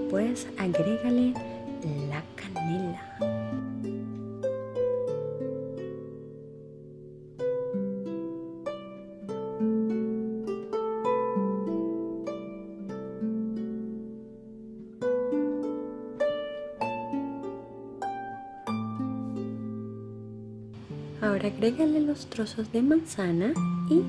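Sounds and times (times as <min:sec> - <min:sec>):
plucked harp-like melody: 0:00.0 - 0:24.0.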